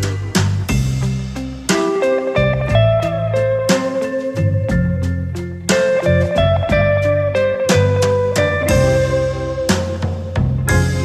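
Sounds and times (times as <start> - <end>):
plucked string notes: 0.0 - 11.0
steady bass line: 0.0 - 11.0.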